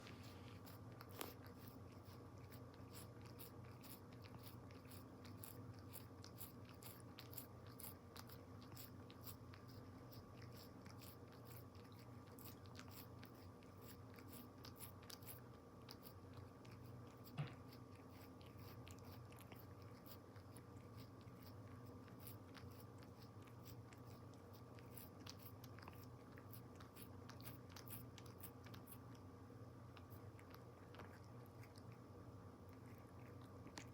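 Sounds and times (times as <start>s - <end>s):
cat chewing with crunching clicks: 0.0s - 33.9s
low steady hum: 0.0s - 33.9s.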